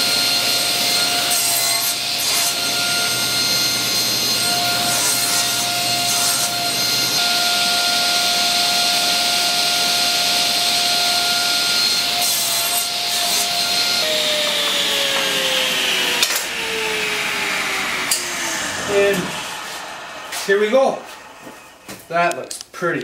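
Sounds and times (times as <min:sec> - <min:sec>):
table saw whining: 0:00.0 - 0:22.5.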